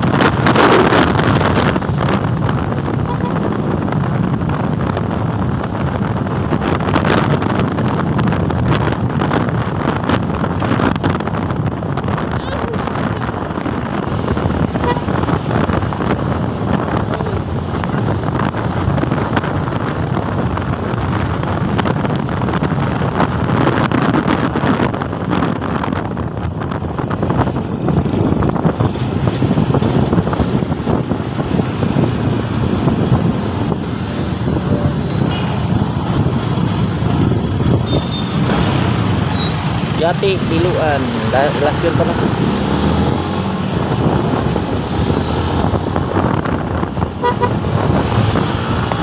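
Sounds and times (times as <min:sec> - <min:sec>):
motorcycle engine: 0:00.0 - 0:49.0
road traffic: 0:00.0 - 0:49.0
wind buffeting microphone: 0:00.0 - 0:49.0.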